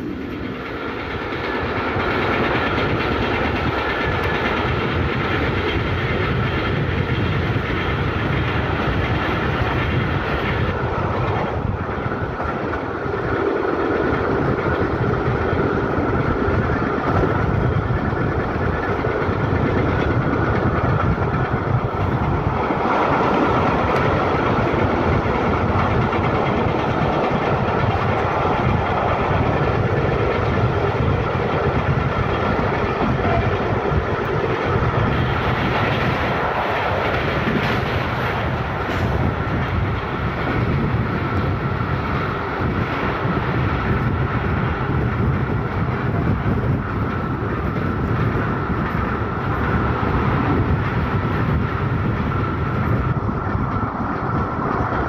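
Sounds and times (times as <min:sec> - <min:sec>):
track clickety-clack: 0:00.0 - 0:55.0
train wheels rumbling on rails: 0:00.0 - 0:55.0.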